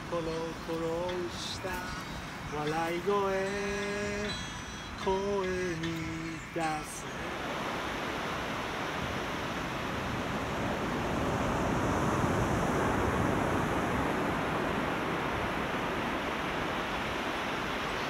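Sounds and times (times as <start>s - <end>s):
ocean surf washing in: 0.0s - 18.0s.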